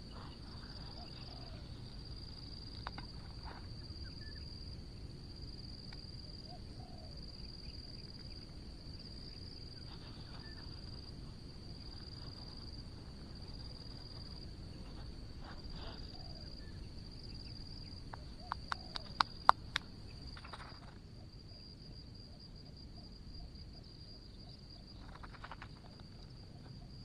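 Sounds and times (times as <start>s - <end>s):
insects trilling: 0.0s - 27.0s
open-air background noise: 0.0s - 27.0s.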